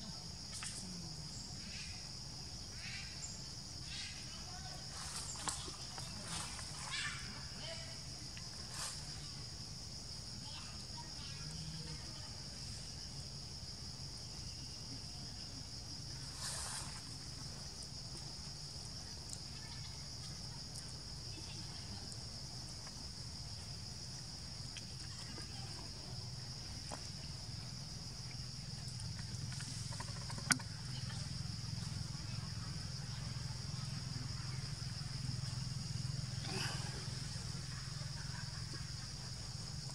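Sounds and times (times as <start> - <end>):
insects droning: 0.0 - 39.9
rustle: 0.2 - 39.9.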